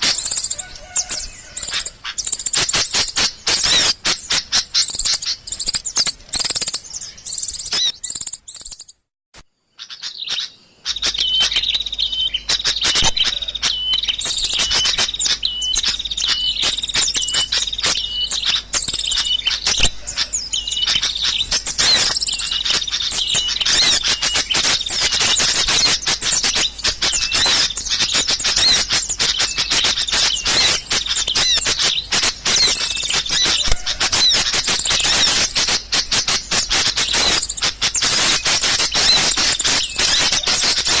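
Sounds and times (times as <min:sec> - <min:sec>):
rapid clicking bird calls: 0:00.0 - 0:09.0, 0:09.8 - 0:41.0
small birds chirping: 0:00.0 - 0:41.0.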